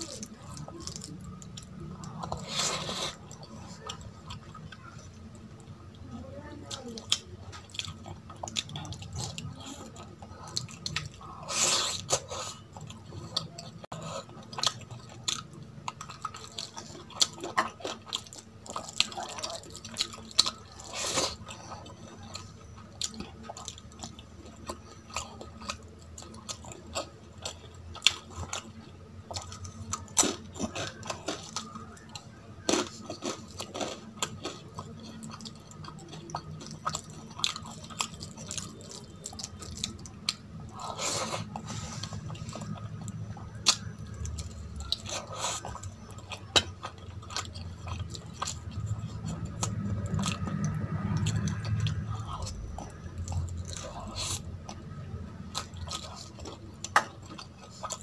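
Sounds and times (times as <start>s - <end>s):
chewing with wet mouth smacks: 0.0s - 6.0s, 6.6s - 58.0s.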